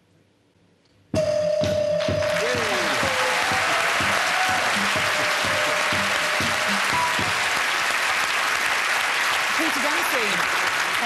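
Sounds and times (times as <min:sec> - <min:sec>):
audience applauding: 0:01.9 - 0:11.0.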